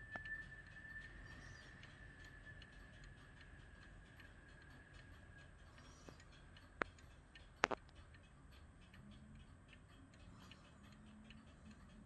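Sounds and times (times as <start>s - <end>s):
clock ticking: 0.0s - 12.0s
sharp clock clicks: 0.0s - 12.0s.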